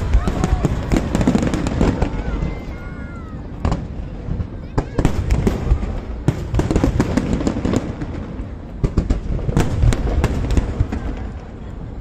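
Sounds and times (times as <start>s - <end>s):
fireworks bursting bangs: 0.0s - 12.0s.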